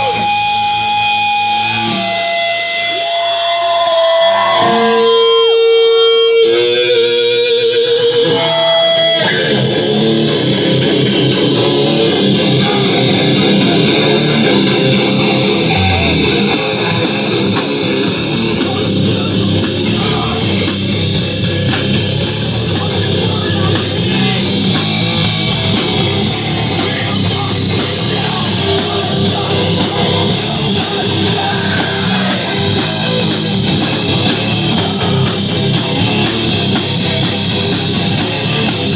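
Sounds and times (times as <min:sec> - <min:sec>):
heavy rock band playing: 0:00.0 - 0:38.9
wavering electric guitar note: 0:00.0 - 0:38.9.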